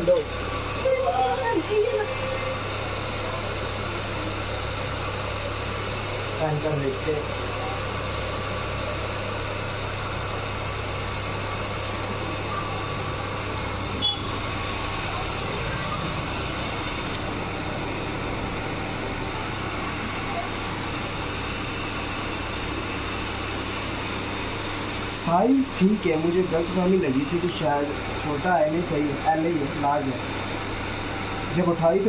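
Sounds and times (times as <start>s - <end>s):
electric fan humming: 0.0s - 32.0s.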